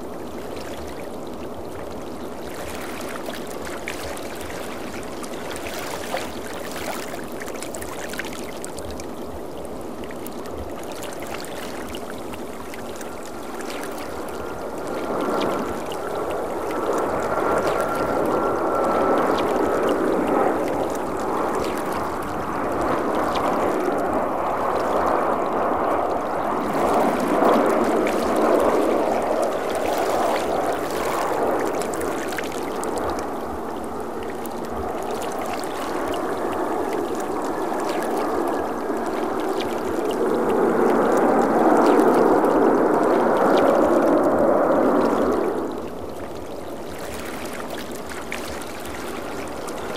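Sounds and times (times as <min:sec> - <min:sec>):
jet engine roar: 0:00.0 - 0:49.9.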